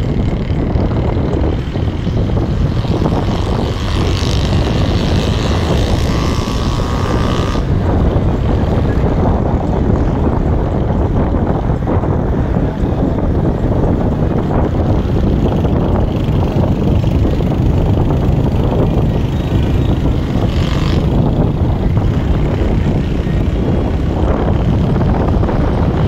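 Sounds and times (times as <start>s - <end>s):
road and wind noise in car: 0.0s - 26.0s.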